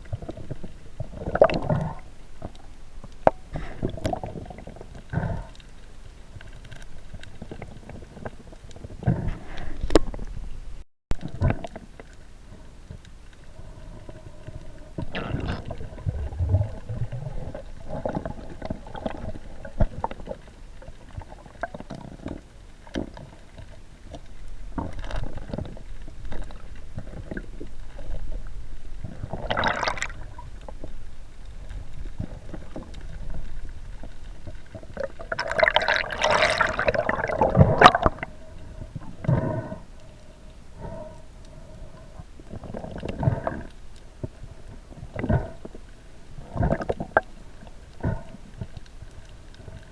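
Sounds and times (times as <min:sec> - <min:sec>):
muffled underwater water movement: 0:00.0 - 0:49.9.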